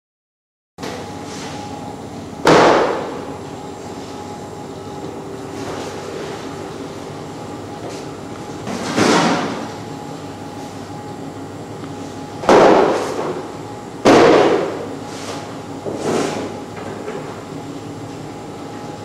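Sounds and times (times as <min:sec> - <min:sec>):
meat tenderiser humming: 0:00.8 - 0:19.0.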